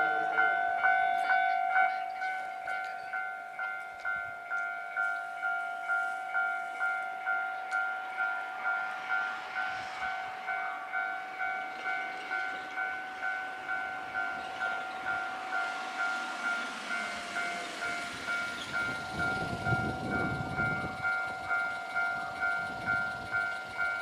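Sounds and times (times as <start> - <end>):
level crossing bell clanging: 0.0 - 24.0
train rushing: 0.0 - 24.0.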